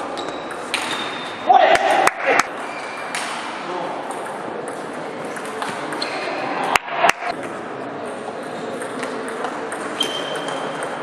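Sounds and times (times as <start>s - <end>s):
murmur in sports hall: 0.0s - 11.0s.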